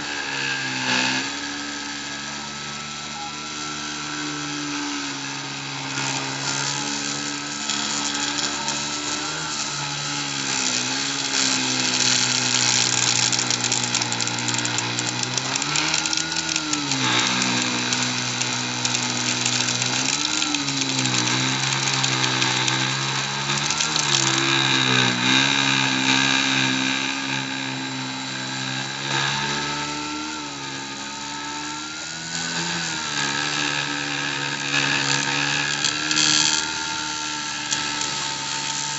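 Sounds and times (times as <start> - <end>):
rotary tool whining: 0.0 - 38.9.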